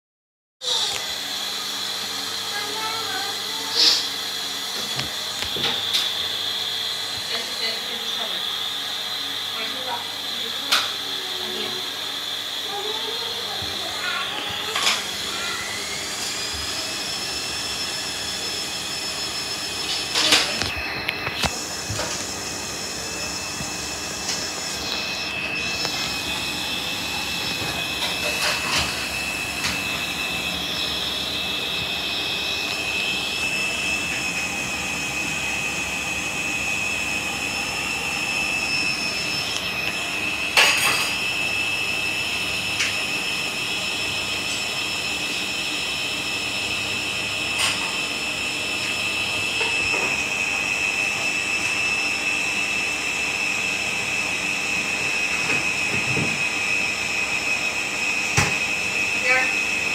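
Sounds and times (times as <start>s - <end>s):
washing machine running with whine: 0.6s - 59.9s.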